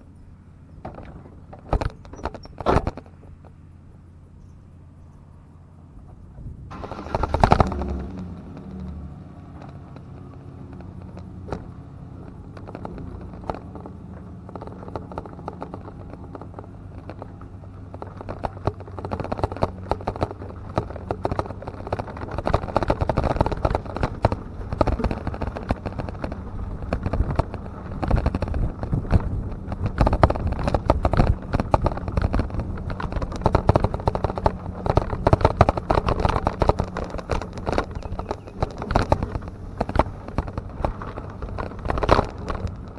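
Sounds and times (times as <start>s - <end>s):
engine idling: 0.0s - 42.9s
irregular crackling and rumbling: 0.0s - 42.9s.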